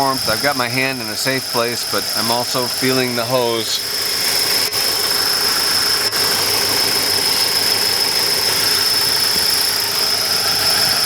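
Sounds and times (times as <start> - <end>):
car engine idling: 0.0 - 11.0
high-pitched whine: 0.0 - 11.0.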